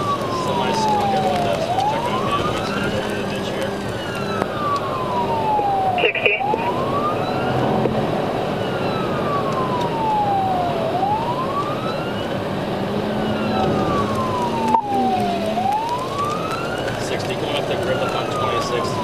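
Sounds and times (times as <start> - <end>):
car engine and road noise: 0.0 - 19.0
police siren wailing: 0.0 - 19.0.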